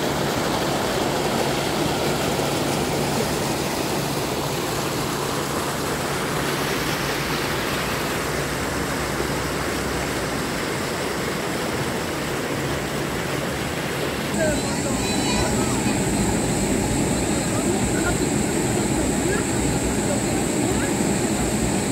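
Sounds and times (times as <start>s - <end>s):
stream water rushing over rocks: 0.0s - 21.9s.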